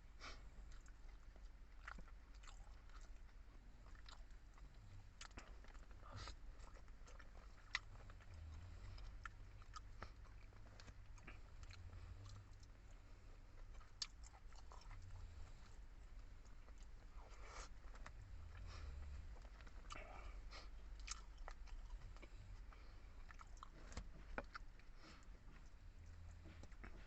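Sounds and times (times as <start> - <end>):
person chewing food: 0.1 - 27.0.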